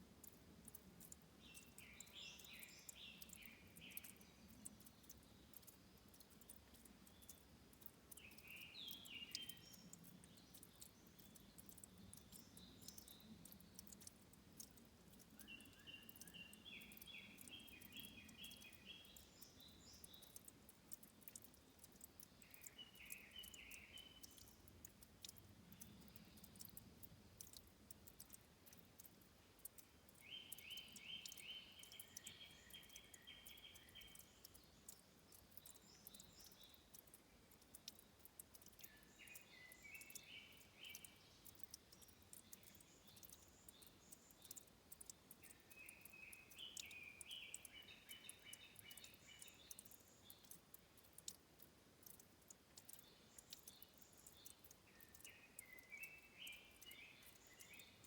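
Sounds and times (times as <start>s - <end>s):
faint bird song: 0.0s - 58.0s
trickling water: 0.0s - 58.0s.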